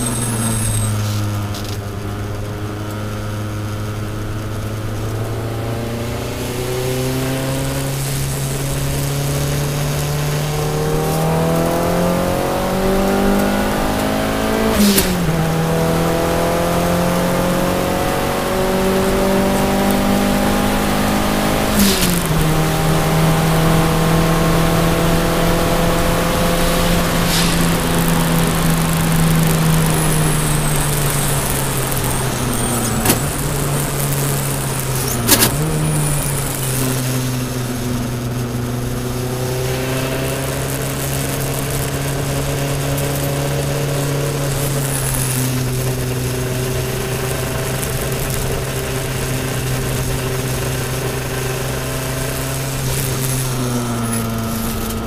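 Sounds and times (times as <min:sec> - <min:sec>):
car engine running: 0:00.0 - 0:55.0
tyre and wind noise: 0:00.0 - 0:55.0.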